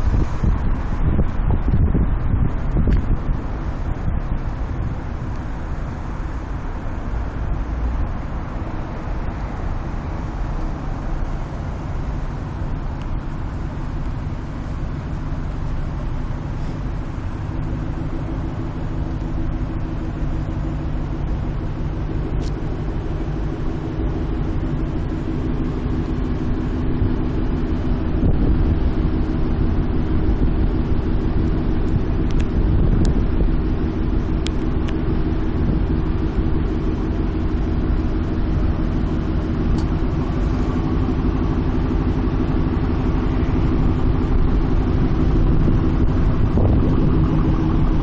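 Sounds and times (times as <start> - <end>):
car engine idling: 0.0 - 48.0
idling traffic noise: 0.0 - 48.0.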